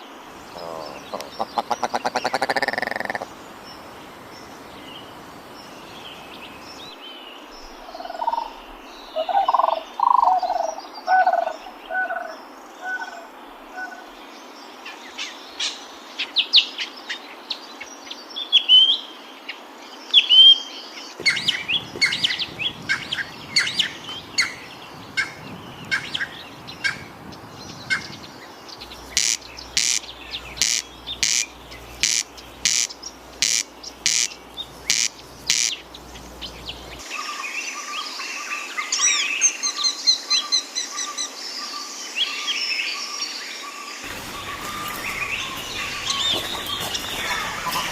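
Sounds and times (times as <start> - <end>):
wild birds calling and singing: 0.0 - 47.9.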